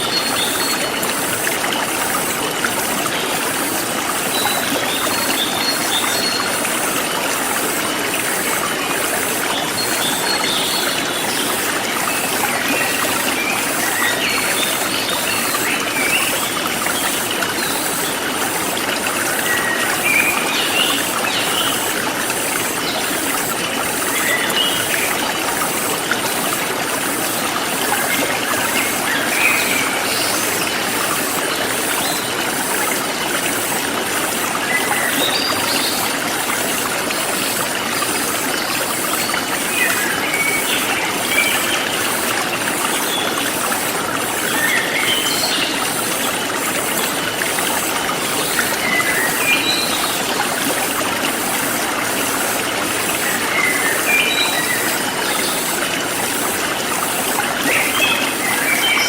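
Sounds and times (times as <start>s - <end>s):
forest stream flowing: 0.0s - 59.0s.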